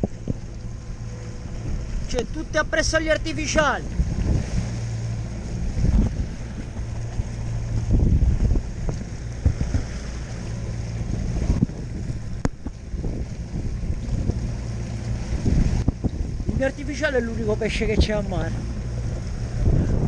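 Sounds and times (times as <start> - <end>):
outboard motor running: 0.0 - 20.0
wind buffeting microphone: 0.0 - 20.0.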